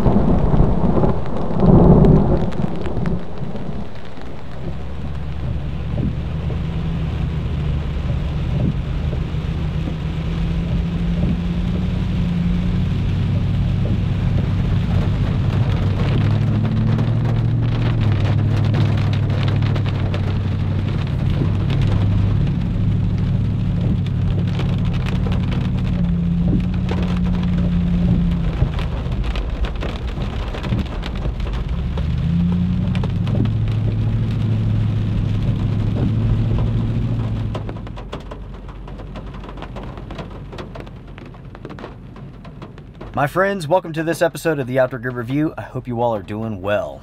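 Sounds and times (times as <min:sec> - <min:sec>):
engine drone: 0:00.0 - 0:38.0
rain on truck roof: 0:00.0 - 0:47.0.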